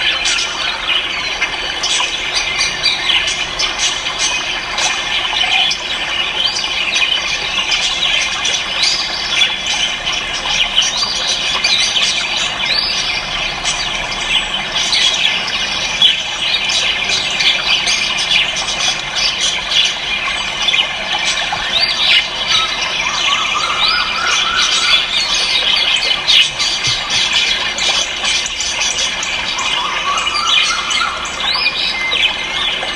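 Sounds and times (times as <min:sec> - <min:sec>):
cage birds chirping and squawking: 0:00.0 - 0:32.9.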